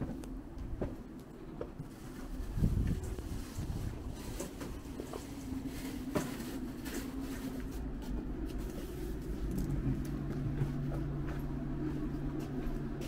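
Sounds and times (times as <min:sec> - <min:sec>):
low street rumble: 0:00.0 - 0:13.0
steady low hum: 0:00.0 - 0:13.0.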